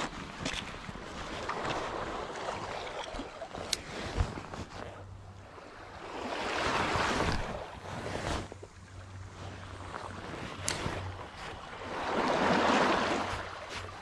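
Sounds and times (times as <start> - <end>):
shallow sea water: 0.0 - 14.0.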